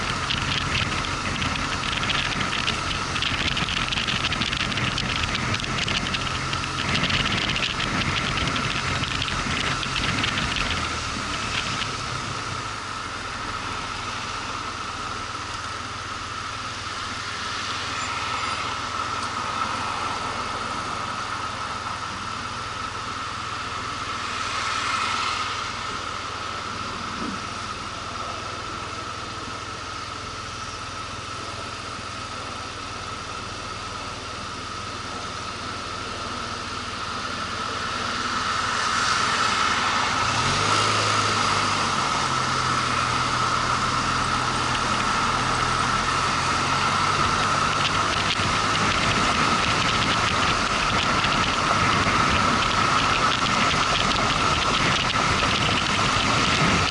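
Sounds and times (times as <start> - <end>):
motorcycle engine running: 0.0 - 18.0, 25.7 - 56.9
deeper steady engine note: 0.0 - 56.9
road and wind noise: 0.0 - 56.9.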